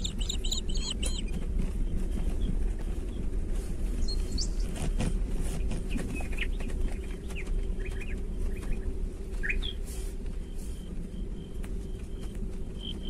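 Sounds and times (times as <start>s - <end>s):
bird chirps: 0.0s - 3.2s, 3.9s - 13.0s
vehicle rumbling on dirt track: 0.0s - 13.0s.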